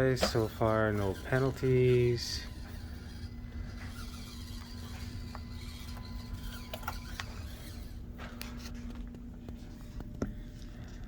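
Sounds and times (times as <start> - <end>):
rc car motor and gear hum: 0.0 - 11.0.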